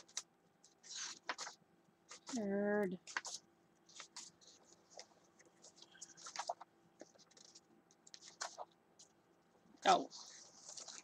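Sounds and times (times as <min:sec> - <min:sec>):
paper pages rustling: 0:00.0 - 0:02.4, 0:03.0 - 0:09.1, 0:09.9 - 0:11.0.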